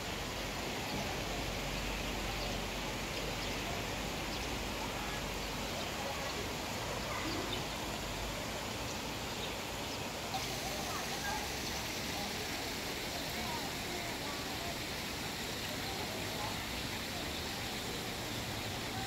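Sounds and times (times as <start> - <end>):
light rain hiss: 0.0 - 19.0.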